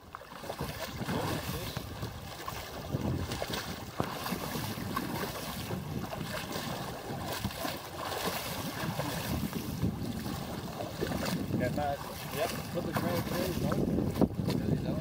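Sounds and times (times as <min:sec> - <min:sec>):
water splashing against boat: 0:00.0 - 0:15.0
wind buffeting microphone: 0:00.3 - 0:15.0
fish thrashing at surface: 0:00.4 - 0:13.6.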